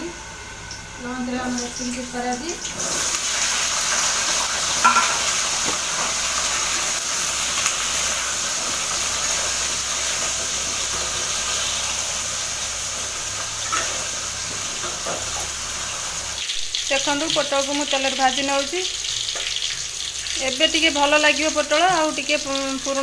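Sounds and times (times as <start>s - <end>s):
vegetable sizzling in hot oil: 0.5s - 23.0s.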